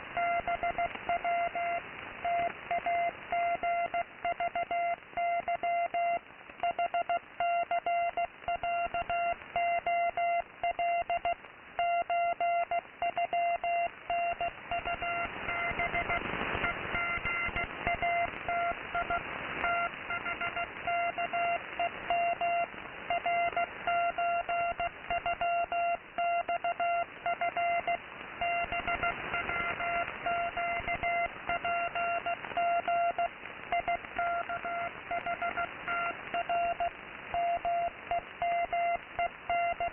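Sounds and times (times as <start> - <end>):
radio static and hiss: 0.0 - 39.9
morse code beeps: 0.2 - 39.9.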